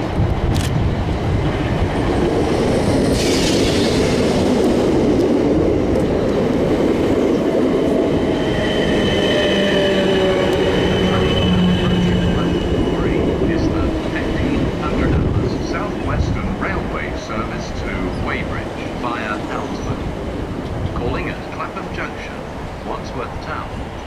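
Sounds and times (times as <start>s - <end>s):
train wheels running on rails: 0.0s - 24.0s.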